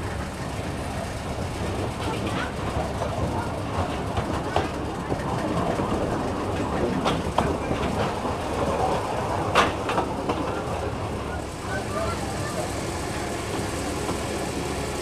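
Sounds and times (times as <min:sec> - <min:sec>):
diesel locomotive running: 0:00.0 - 0:15.0
wheels clicking over rail joints: 0:00.0 - 0:15.0.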